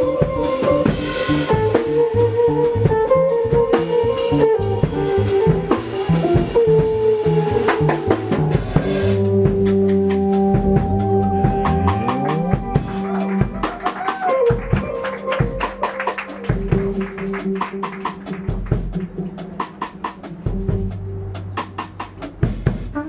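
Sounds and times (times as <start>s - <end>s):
fretless electric guitar melody: 0.0s - 19.4s
drum kit: 0.0s - 23.0s
electric bass: 0.0s - 23.0s.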